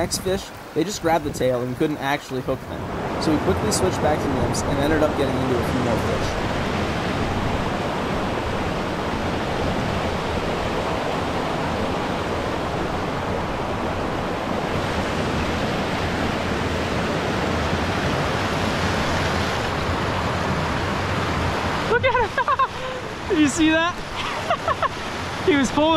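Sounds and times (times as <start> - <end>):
stream rushing over rocks: 0.0 - 25.9.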